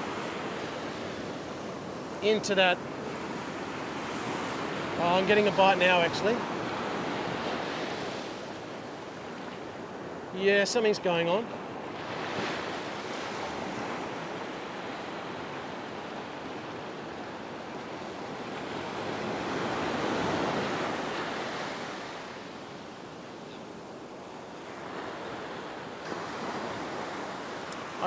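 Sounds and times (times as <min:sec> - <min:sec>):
ocean surf washing onto beach: 0:00.0 - 0:28.0.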